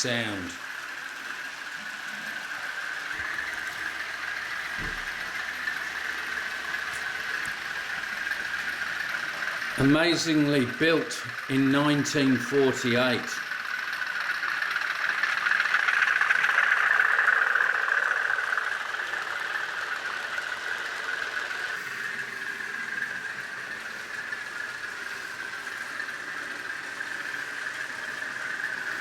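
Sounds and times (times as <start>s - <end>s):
model locomotive diesel engine sound: 0.0s - 29.0s.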